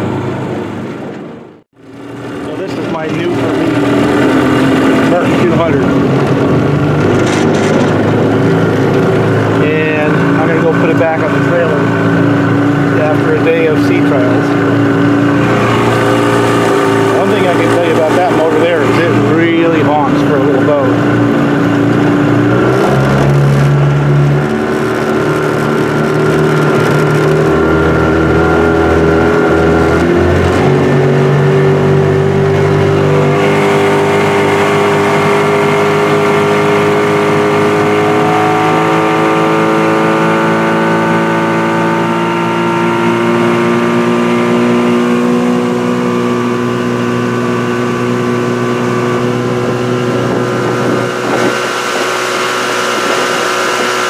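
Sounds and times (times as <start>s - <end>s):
outboard motor running: 0.0s - 54.0s
water rushing behind boat: 2.6s - 7.1s, 7.9s - 54.0s.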